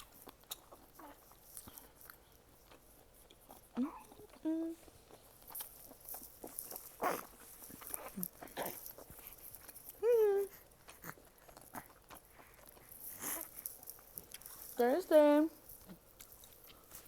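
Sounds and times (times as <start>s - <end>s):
soft chewing and mouth clicks: 0.0s - 17.0s.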